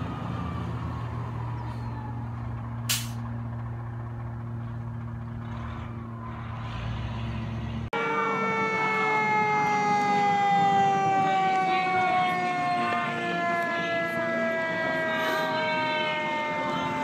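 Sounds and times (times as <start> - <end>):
fire engine humming: 0.0 - 17.0
fire truck siren: 0.0 - 17.0.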